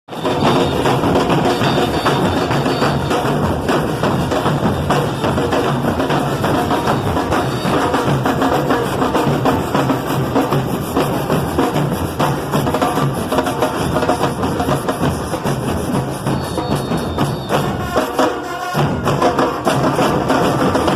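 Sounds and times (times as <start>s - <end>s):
band with brass and drums: 0.1s - 20.9s
bass drum and snare beat: 0.1s - 20.9s.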